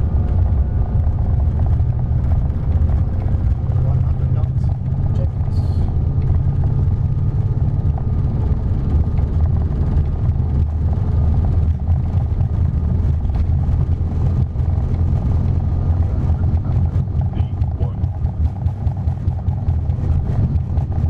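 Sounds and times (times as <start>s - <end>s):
jet engines at takeoff thrust: 0.0s - 21.0s
wheels running on runway: 0.0s - 21.0s.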